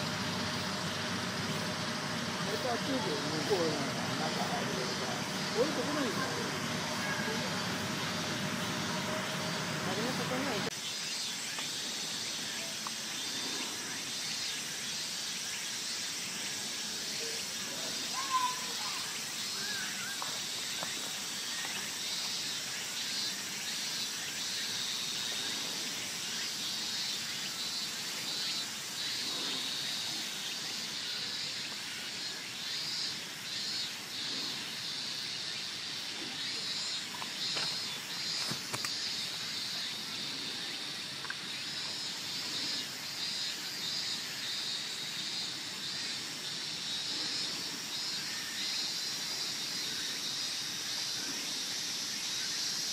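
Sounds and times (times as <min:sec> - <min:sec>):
insect chorus buzzing: 0:00.0 - 0:52.9.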